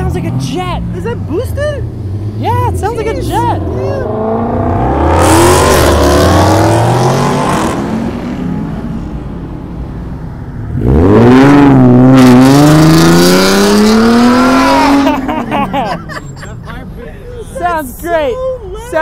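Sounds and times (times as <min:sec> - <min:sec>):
loud car engine accelerating: 0:00.0 - 0:16.1
car engine revving: 0:00.0 - 0:18.0.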